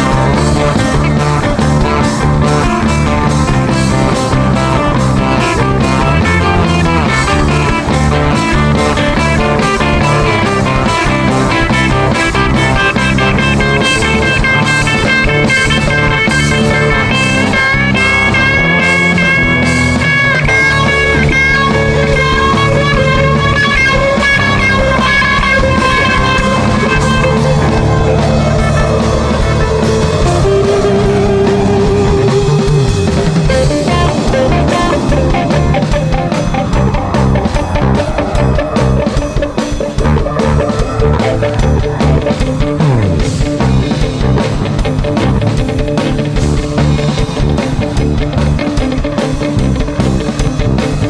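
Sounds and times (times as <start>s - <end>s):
bass guitar: 0.0s - 51.0s
held electric guitar lines: 0.0s - 51.0s
steady drum beat: 0.0s - 51.0s.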